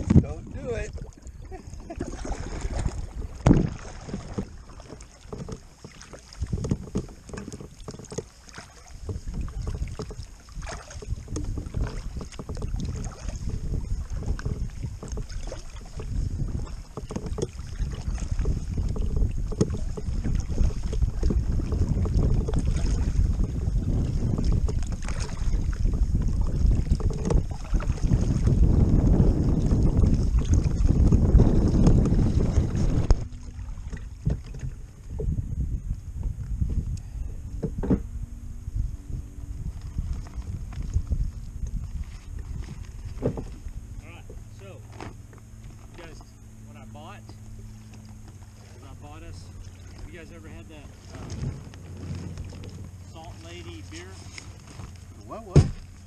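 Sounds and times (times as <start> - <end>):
paddle strokes splashing: 0.0 - 35.4, 39.4 - 56.0
wind rumble on microphone: 0.0 - 56.0.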